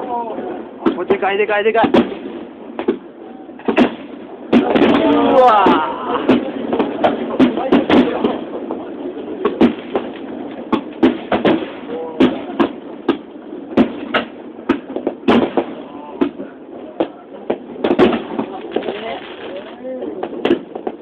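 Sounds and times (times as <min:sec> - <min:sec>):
fireworks bangs and cracks: 0:00.0 - 0:21.0
crowd murmur: 0:02.2 - 0:20.9.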